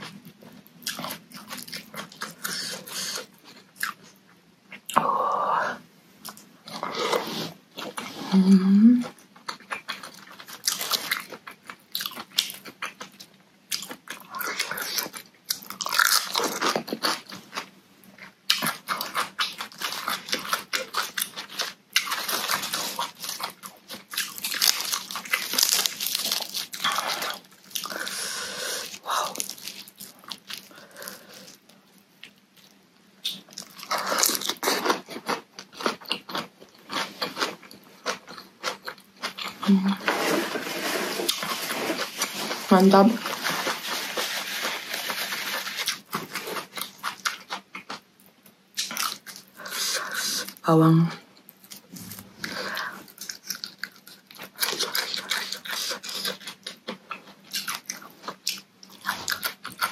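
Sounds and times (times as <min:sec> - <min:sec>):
person crunching raw vegetables: 0:06.2 - 0:48.0, 0:51.5 - 0:59.9.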